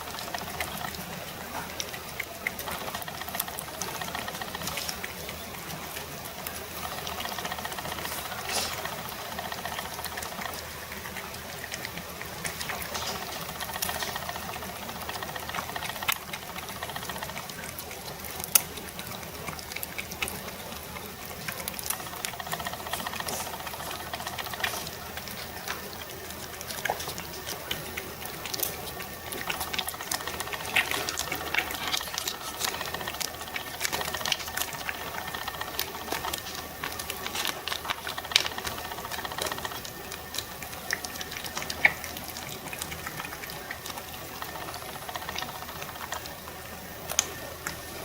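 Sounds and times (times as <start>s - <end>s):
cat licking and lapping: 0.0s - 48.0s.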